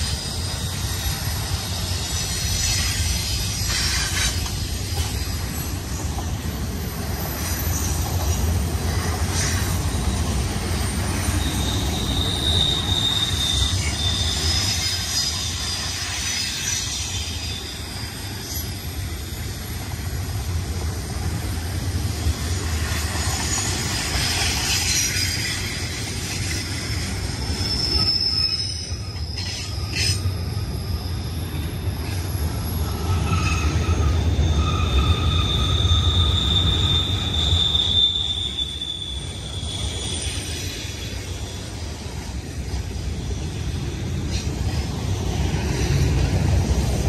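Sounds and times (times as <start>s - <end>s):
high-pitched wheel squeals: 0.0s - 6.1s, 6.8s - 20.0s, 22.6s - 46.0s
train wheels rumbling on rail: 0.0s - 47.0s.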